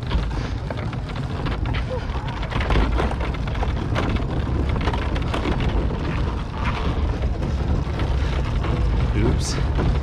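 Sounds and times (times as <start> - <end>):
hard wheels rolling on concrete: 0.0 - 10.0
wheels clacking over joints: 0.0 - 10.0
wind buffeting microphone: 0.0 - 10.0.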